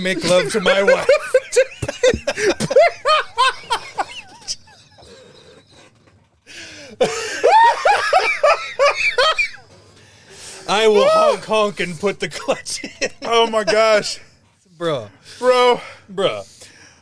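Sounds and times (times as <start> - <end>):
men laughing: 0.0 - 9.8, 10.4 - 14.3.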